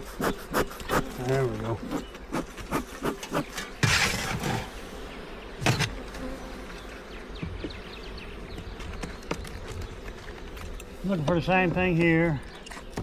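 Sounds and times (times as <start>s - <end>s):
hive handling noises: 0.0s - 13.0s
honey bees buzzing: 0.0s - 13.0s.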